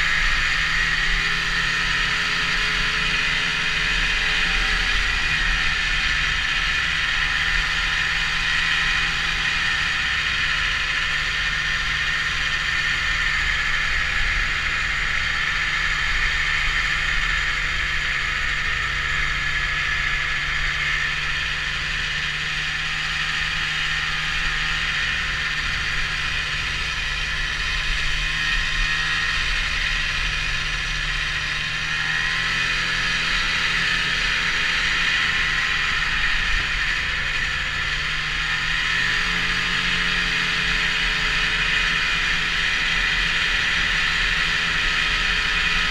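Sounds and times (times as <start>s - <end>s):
snowmobile engine drone: 0.0s - 45.9s
snowmobile track noise: 0.0s - 45.9s.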